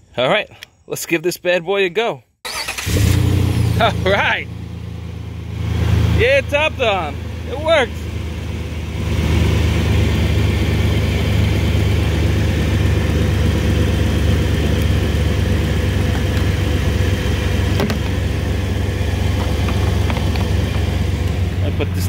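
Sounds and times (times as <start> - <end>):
car engine idling: 2.5 - 22.0.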